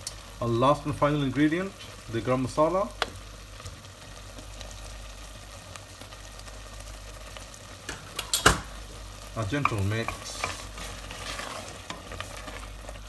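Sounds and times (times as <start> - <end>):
curry simmering sizzle: 0.0 - 13.0.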